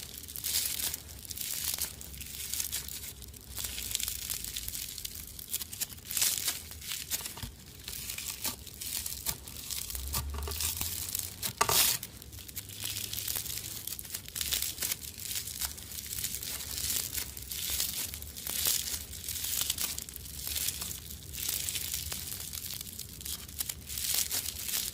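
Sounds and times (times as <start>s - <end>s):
slime crackling and crinkling: 0.0s - 24.9s.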